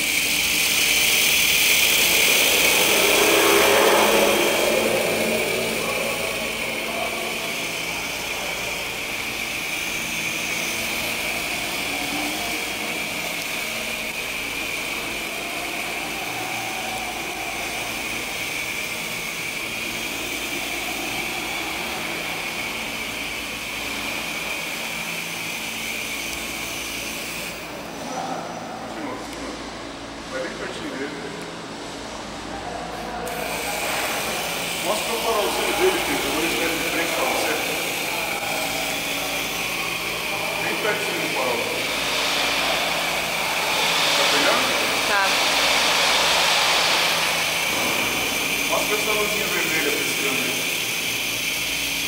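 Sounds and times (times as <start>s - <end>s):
toy helicopter rotor whine: 0.0s - 28.7s, 33.1s - 52.0s.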